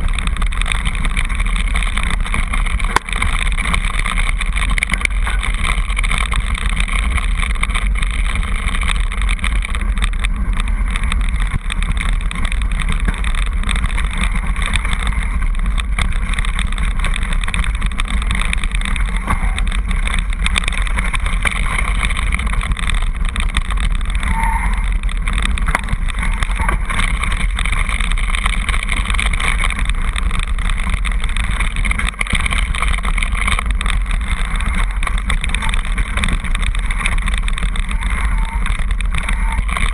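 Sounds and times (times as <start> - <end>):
bike frame rattle: 0.0 - 39.9
tyres on stones: 0.0 - 39.9
wind on microphone: 0.0 - 39.9.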